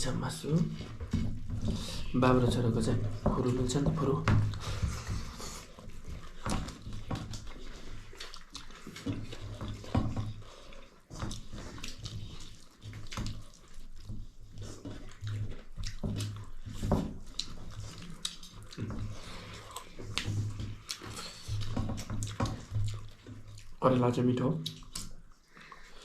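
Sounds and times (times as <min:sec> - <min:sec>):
wet chewing and slurping: 0:00.0 - 0:26.0.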